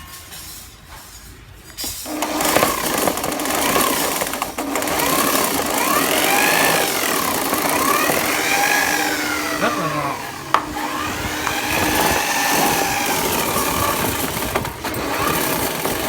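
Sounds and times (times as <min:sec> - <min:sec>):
electric drill motor whine: 0:02.1 - 0:16.0.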